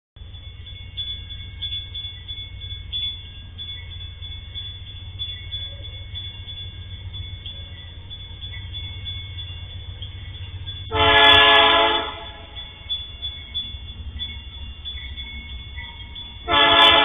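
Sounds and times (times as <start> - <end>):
crossing warning bell ringing: 0.2 - 17.0
train rumbling: 0.2 - 17.0.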